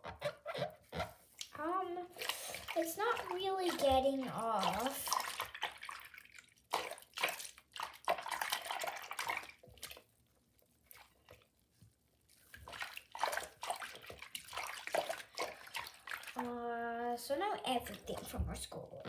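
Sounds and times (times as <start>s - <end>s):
hand swishing soapy water: 0.5s - 18.8s.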